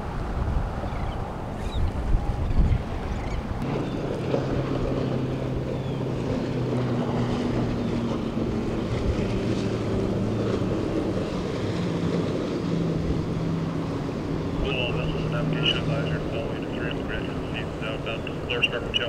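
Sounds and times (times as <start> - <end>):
ship engines droning: 0.0 - 19.0
wind and water noise: 0.0 - 19.0.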